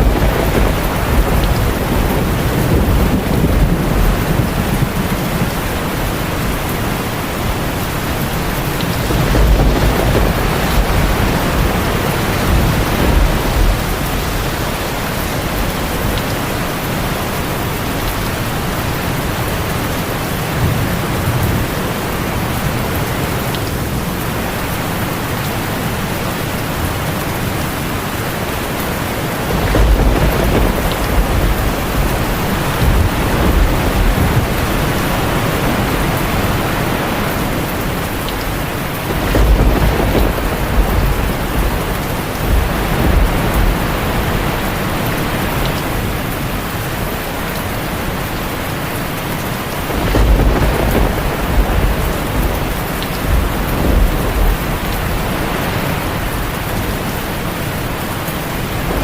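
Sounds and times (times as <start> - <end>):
heavy rain on a tin roof: 0.0 - 59.0
thunder rumbling: 0.0 - 59.0.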